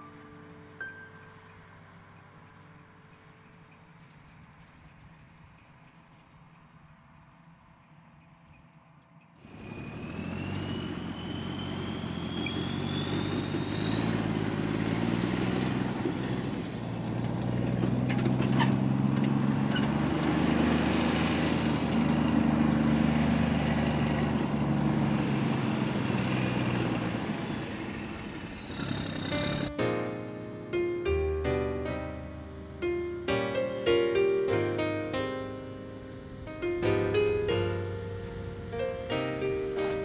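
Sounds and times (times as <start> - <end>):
machinery engine running: 0.0 - 30.4, 36.2 - 40.0.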